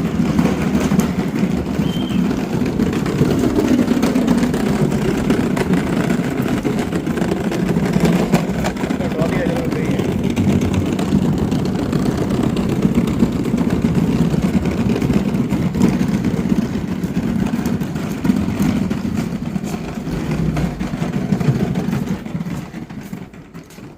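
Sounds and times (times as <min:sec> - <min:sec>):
rough road noise: 0:00.0 - 0:23.9
vehicle engine running: 0:00.0 - 0:23.9.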